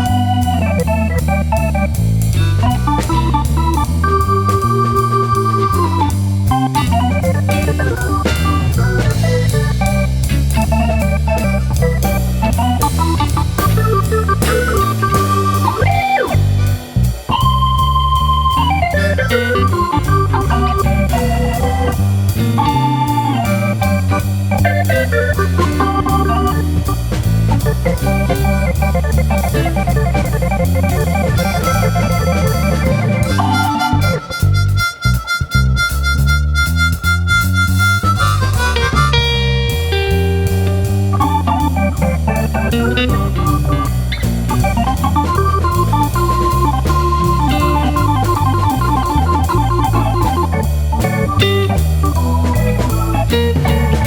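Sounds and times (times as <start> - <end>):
organ music: 0.0 - 54.0
steady drum beat: 0.0 - 54.0.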